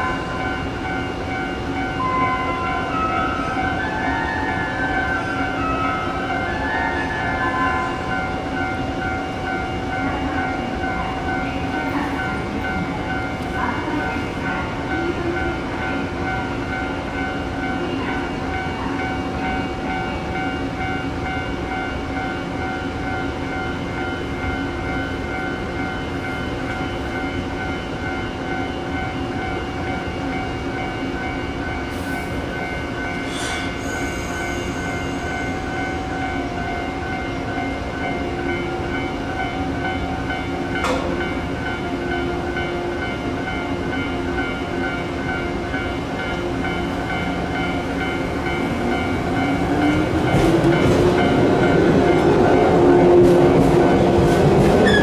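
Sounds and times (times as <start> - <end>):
electric train hum and whine: 0.0 - 55.0.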